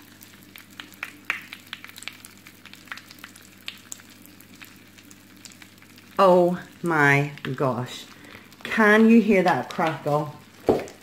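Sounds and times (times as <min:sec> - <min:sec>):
salt rocks crackling in water: 0:00.2 - 0:06.2, 0:06.8 - 0:11.0.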